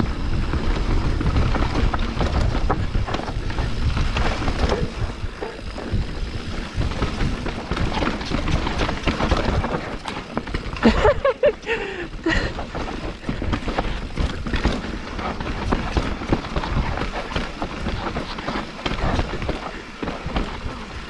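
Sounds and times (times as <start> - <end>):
bike clicking and rattling: 0.0 - 21.0
tyres on loose dirt: 0.0 - 21.0
wind rumbling on microphone: 0.0 - 21.0.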